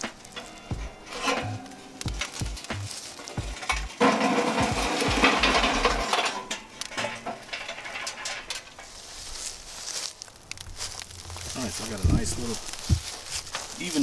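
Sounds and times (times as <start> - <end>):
charcoal clattering against metal: 0.0 - 14.0.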